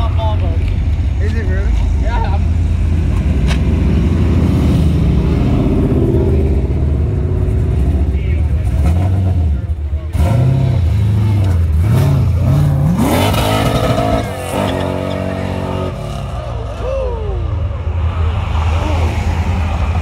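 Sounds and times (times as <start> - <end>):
car engine accelerating: 1.8 - 20.0.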